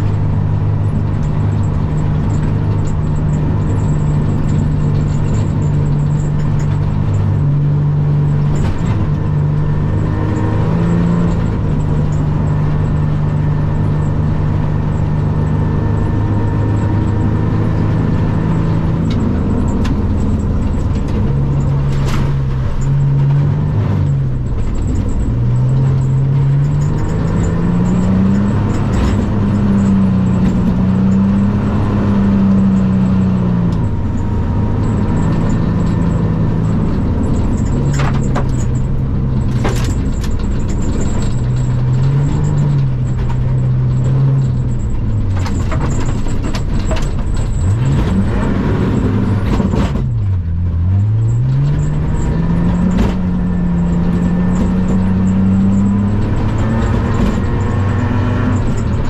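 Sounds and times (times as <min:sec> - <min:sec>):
car engine revving: 0:00.0 - 0:59.0
tyres rumbling on gravel: 0:00.0 - 0:59.0.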